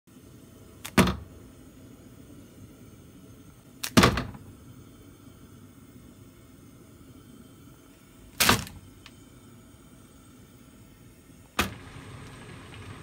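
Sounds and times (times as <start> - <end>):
faint room hum: 0.1 - 13.0.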